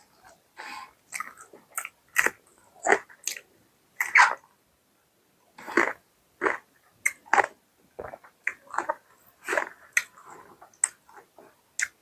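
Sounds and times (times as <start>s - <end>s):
person chewing and smacking: 1.1s - 4.4s, 5.6s - 12.0s.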